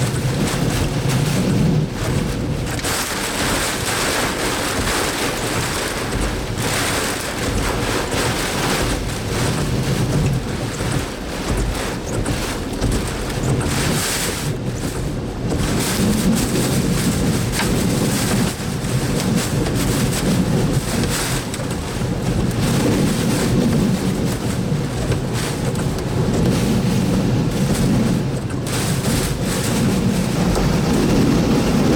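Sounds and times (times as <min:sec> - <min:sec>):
wind buffeting microphone: 0:00.0 - 0:31.9
wind rushing and gusting: 0:00.0 - 0:31.9.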